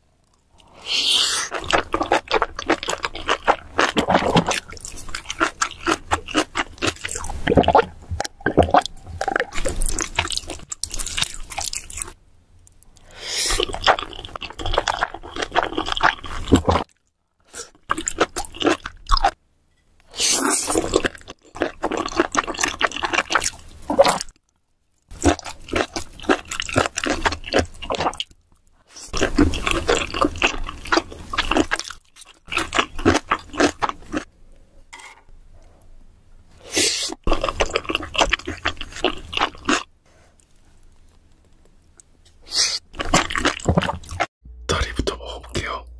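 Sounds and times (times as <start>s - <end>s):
person chewing and crunching food: 0.4s - 19.4s, 20.1s - 34.3s, 36.6s - 45.9s.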